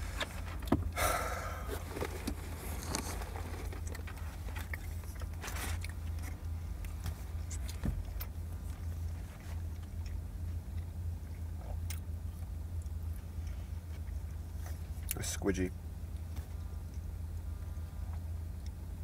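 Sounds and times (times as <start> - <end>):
eating and handling sounds: 0.0 - 15.3
steady low hum: 0.0 - 19.0.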